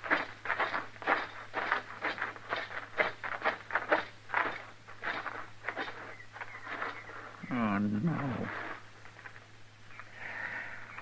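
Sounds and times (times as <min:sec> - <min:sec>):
footsteps on rough ground: 0:00.0 - 0:09.7
faint recording hum: 0:00.0 - 0:11.0.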